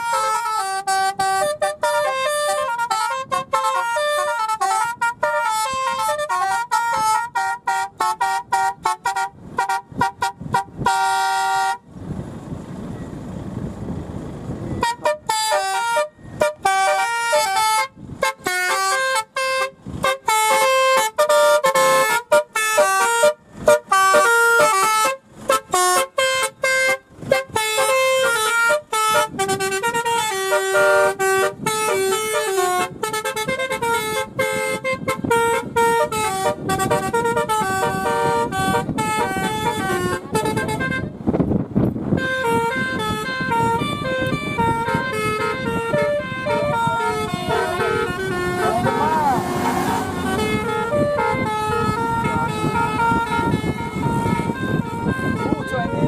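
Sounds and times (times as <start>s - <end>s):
multi-tone horn playing tune: 0.0s - 11.9s, 14.8s - 41.2s, 42.0s - 56.0s.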